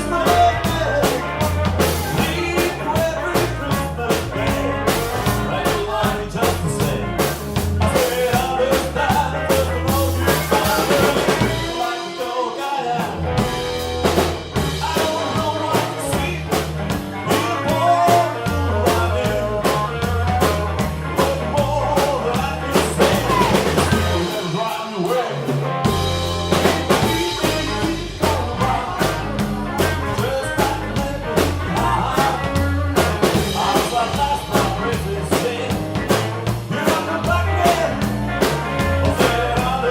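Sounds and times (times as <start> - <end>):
bass line: 0.0 - 11.9, 12.8 - 24.8, 25.5 - 39.9
blues band playing: 0.0 - 39.9.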